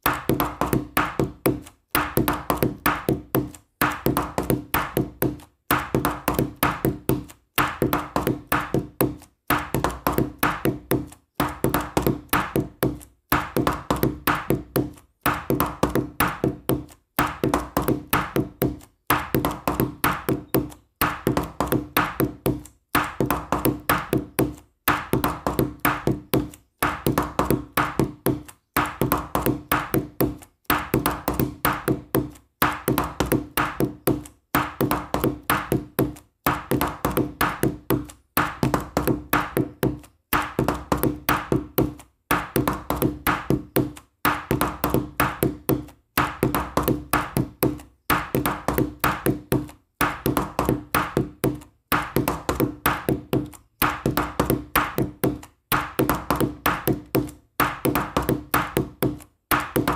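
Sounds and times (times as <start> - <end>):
light percussive background music: 0.0 - 59.9.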